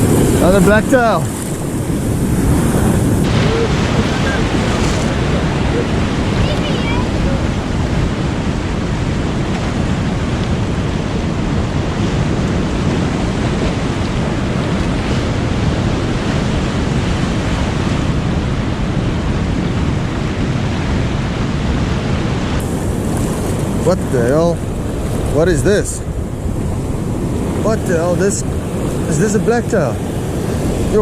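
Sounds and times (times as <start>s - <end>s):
surf washing: 0.0s - 31.0s
wind on microphone: 0.0s - 31.0s.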